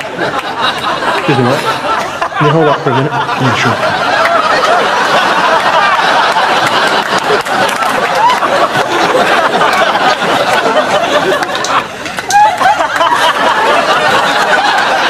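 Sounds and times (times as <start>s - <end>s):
studio audience laughing: 0.0s - 15.0s.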